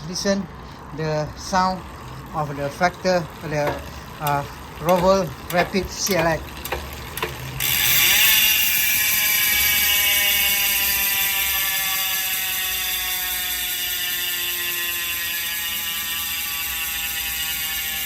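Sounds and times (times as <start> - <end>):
bicycle freehub buzzing: 0.0 - 18.0.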